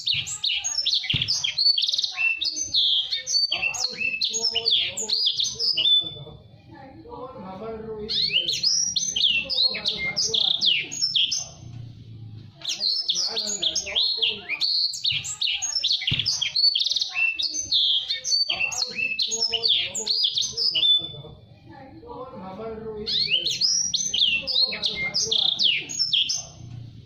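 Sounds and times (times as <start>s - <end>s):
songbird singing rapid chirps and trills: 0.0s - 6.2s, 8.1s - 11.7s, 12.6s - 21.2s, 23.1s - 26.8s.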